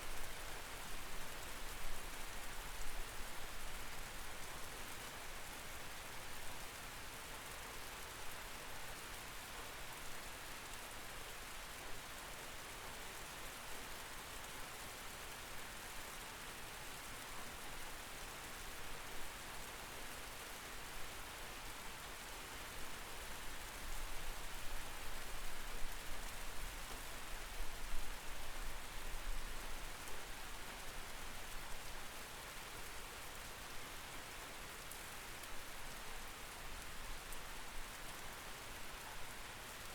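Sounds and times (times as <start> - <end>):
rain falling: 7.4 - 39.9.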